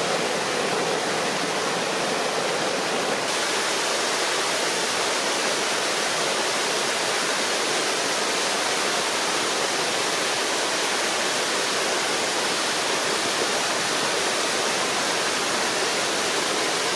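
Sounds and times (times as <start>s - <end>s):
stream cascading over rocks: 0.0s - 16.9s.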